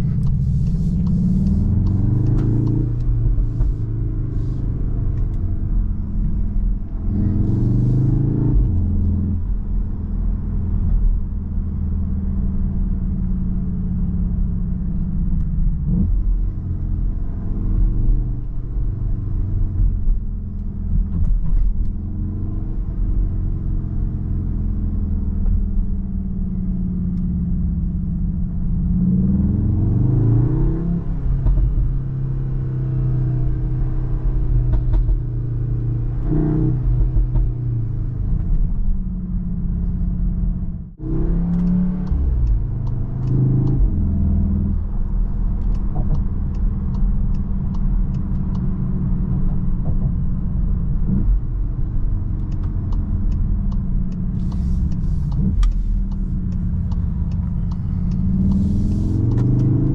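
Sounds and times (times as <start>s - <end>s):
car engine in cabin: 0.0s - 59.9s.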